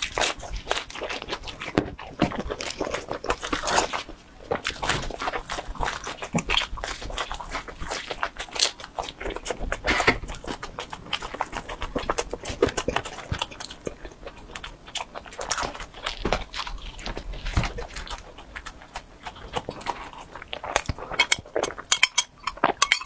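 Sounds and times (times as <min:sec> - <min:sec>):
person chewing crunchy crust: 0:00.0 - 0:23.0.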